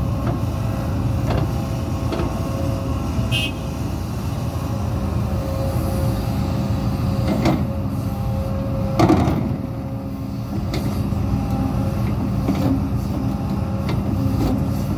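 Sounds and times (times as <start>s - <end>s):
excavator whine: 0.0s - 14.9s.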